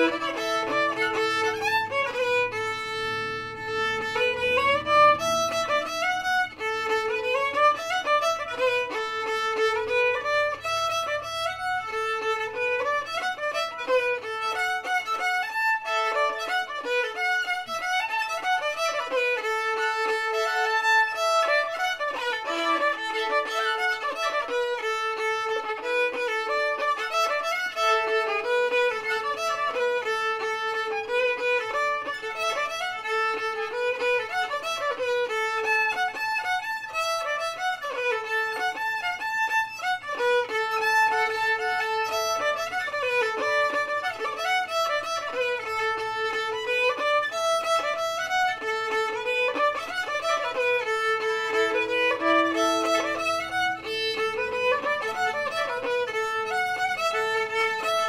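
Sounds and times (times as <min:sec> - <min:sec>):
fiddle playing brisk tune: 0:00.0 - 0:58.0.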